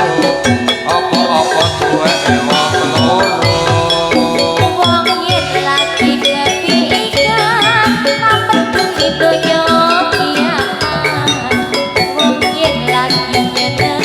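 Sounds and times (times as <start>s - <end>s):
drum strokes: 0.0s - 14.0s
high wavering melody: 0.0s - 14.0s
metallophones ringing: 0.0s - 14.0s.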